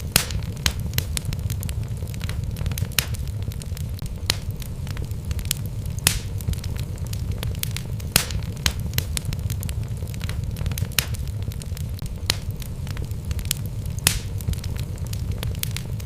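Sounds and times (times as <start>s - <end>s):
fire burning with low rumble: 0.0s - 16.0s
logs crackling and popping: 0.0s - 16.0s.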